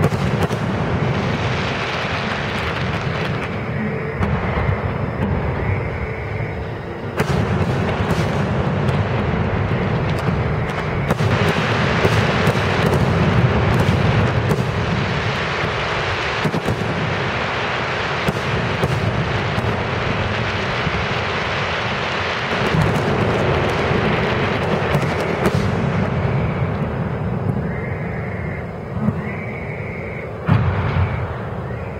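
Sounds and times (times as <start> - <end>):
sharp fireworks reports: 0.0 - 31.9.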